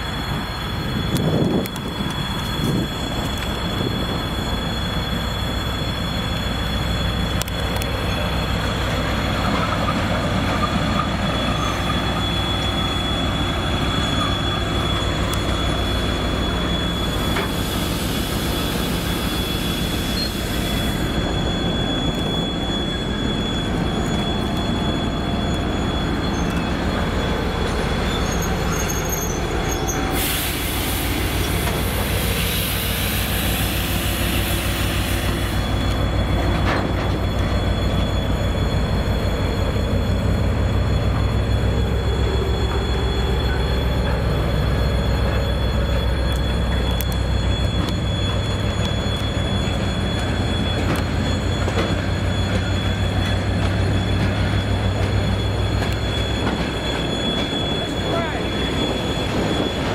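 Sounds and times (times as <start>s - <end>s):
diesel locomotive rumbling: 0.0s - 59.9s
wheel squeal: 0.0s - 59.9s.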